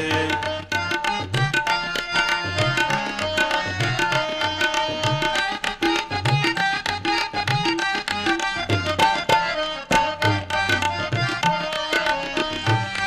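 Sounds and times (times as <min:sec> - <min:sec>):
tabla playing fast strokes: 0:00.0 - 0:13.0.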